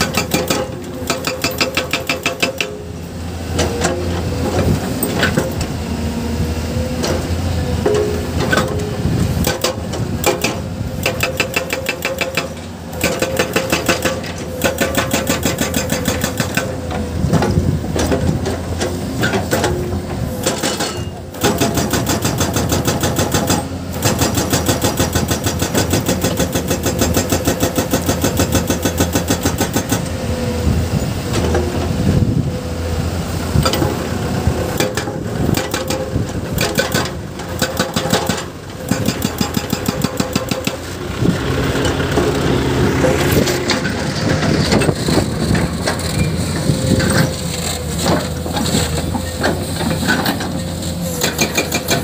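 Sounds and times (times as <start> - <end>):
excavator diesel engine: 0.0 - 52.0.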